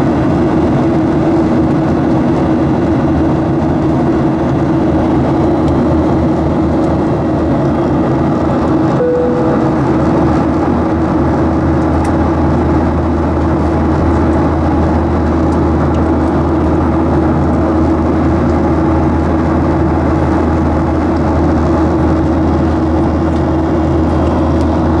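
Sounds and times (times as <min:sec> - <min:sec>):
jet engines and airflow rush: 0:00.0 - 0:25.0
low cabin hum and drone: 0:00.1 - 0:25.0.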